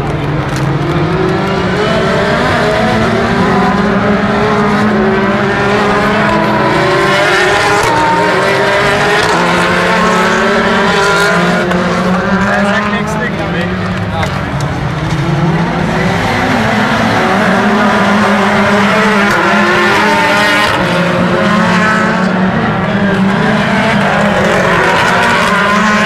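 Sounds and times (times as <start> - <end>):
racing cars passing at high revs: 0.0 - 26.0.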